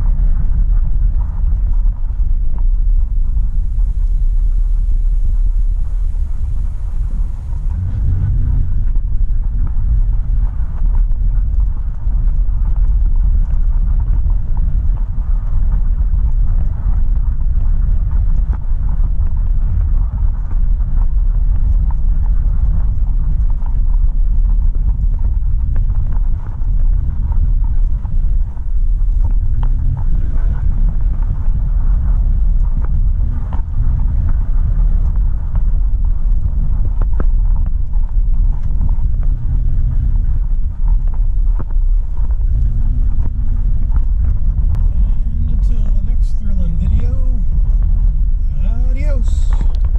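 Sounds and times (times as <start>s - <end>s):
road and engine rumble: 0.0s - 49.9s
wind noise: 0.0s - 49.9s.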